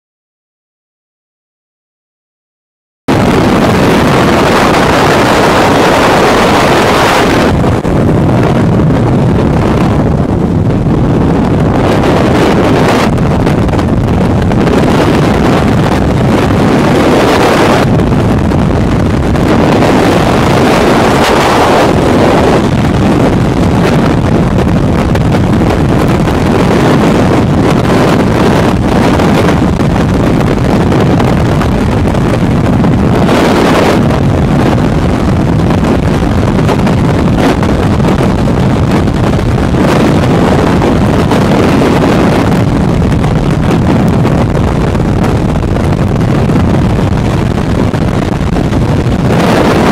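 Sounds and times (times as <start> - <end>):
loud wind rushing over microphone: 3.1 - 49.9.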